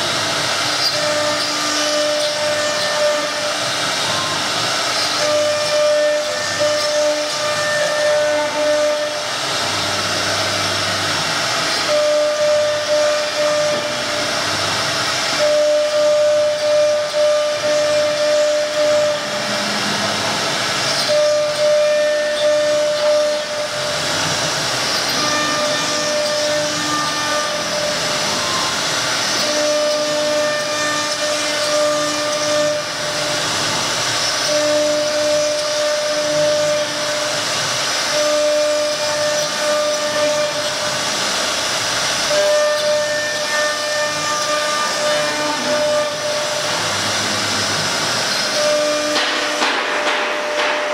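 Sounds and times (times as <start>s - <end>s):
machine whine: 0.0s - 50.9s
wood router cutting board: 0.0s - 50.9s.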